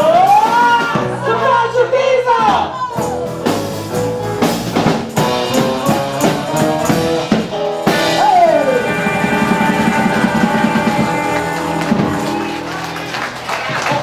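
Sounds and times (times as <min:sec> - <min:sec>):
live band playing upbeat song: 0:00.0 - 0:14.0.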